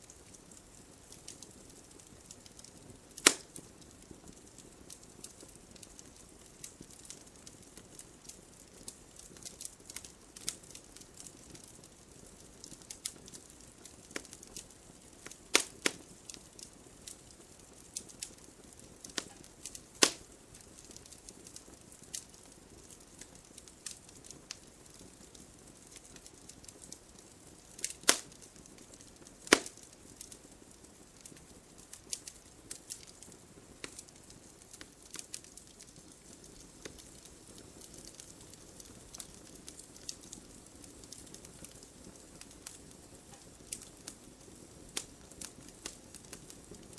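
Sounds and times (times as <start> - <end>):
faint steady hiss: 0.0 - 46.9
wood fire crackling and popping: 0.0 - 46.9.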